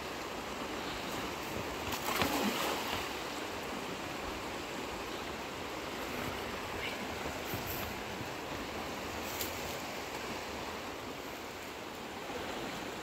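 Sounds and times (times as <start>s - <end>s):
fast-flowing river water: 0.0s - 13.0s.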